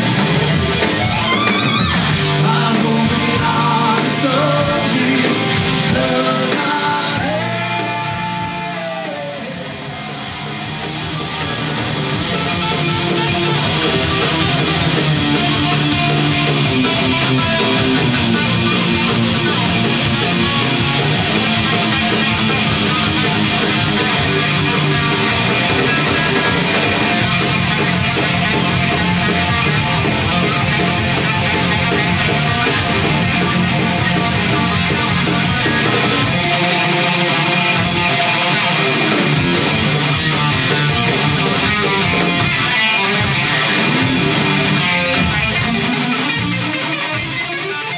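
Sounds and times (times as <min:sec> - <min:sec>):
bass guitar: 0:00.0 - 0:47.9
drums: 0:00.0 - 0:47.9
electric guitar: 0:00.0 - 0:47.9.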